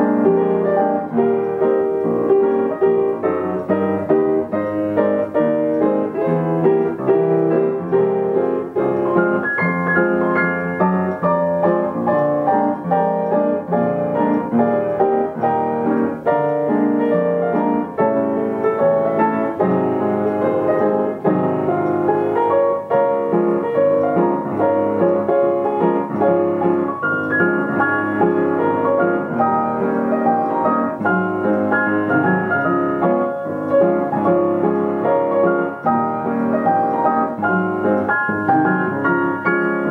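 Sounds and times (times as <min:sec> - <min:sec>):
self-playing piano: 0:00.0 - 0:39.9.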